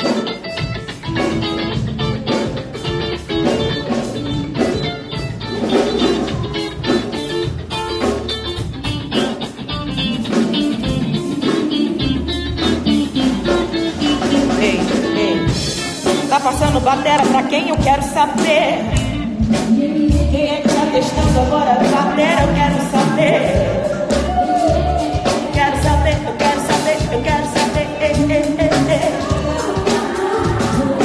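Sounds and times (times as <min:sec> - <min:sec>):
drum strokes: 0:00.0 - 0:31.0
electric guitar playing: 0:00.0 - 0:31.0.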